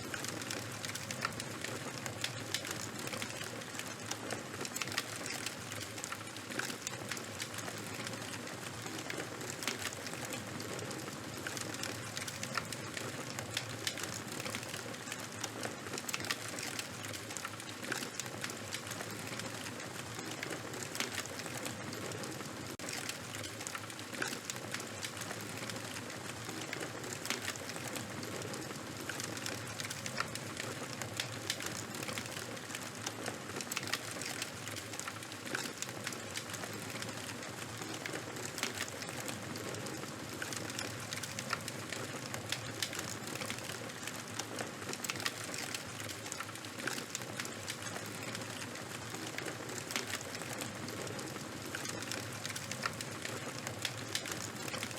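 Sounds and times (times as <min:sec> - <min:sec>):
fire crackling and popping: 0:00.0 - 0:54.9.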